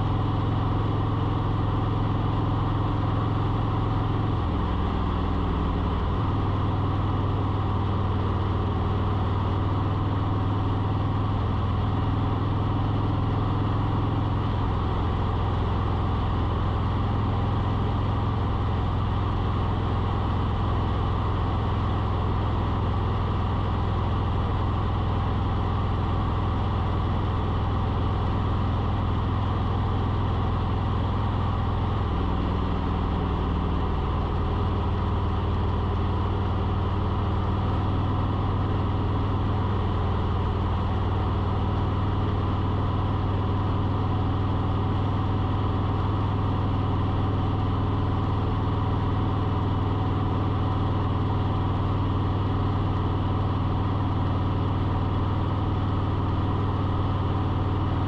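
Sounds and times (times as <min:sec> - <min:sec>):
engine humming at idle: 0:00.0 - 0:58.0.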